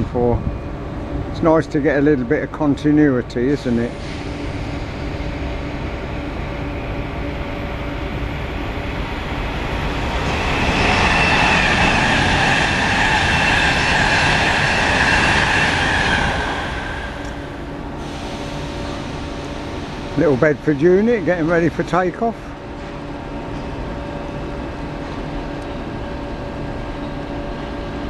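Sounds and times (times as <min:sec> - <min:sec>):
high steady whine: 0:00.0 - 0:27.7
train rumble passing: 0:00.0 - 0:28.0.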